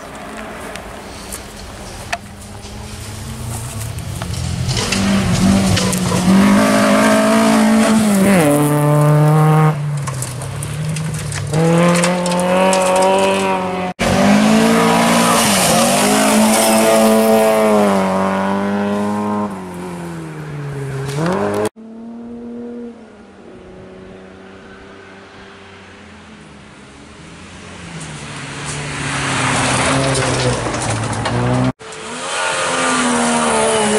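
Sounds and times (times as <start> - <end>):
rally car engines revving: 0.0 - 26.4, 27.6 - 33.9.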